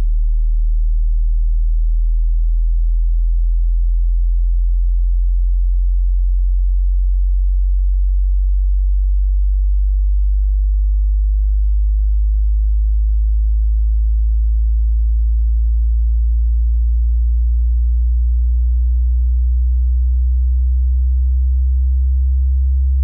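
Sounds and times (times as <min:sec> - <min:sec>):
deep pure sine tone: 0:00.0 - 0:23.0.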